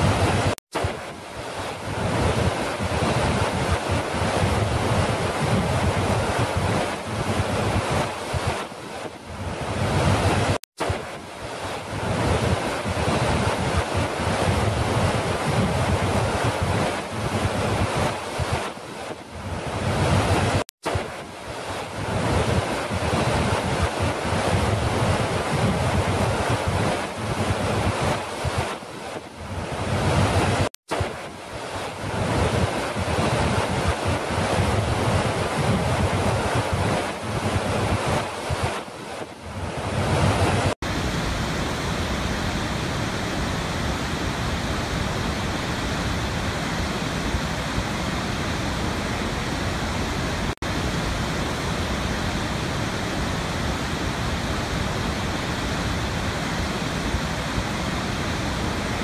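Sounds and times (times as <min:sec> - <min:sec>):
low rumble of waterfall: 0:00.0 - 0:59.0.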